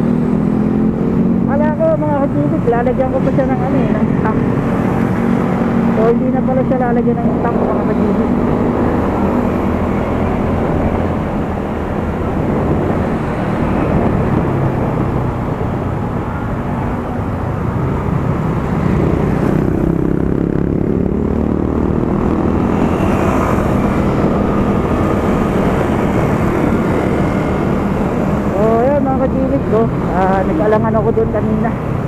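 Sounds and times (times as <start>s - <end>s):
wind and road noise: 0.0s - 32.0s.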